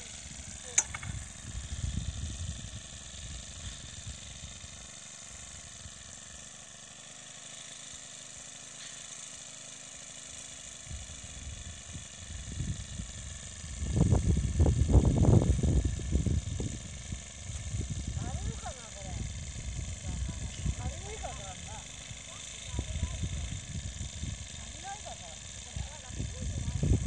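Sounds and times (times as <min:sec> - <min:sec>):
small engine idling: 0:00.0 - 0:27.0.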